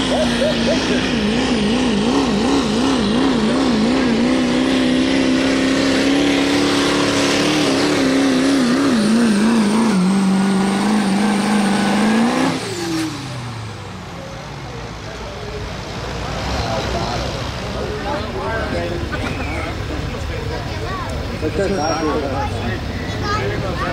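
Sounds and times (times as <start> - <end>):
diesel truck engine at full throttle: 0.0 - 23.9.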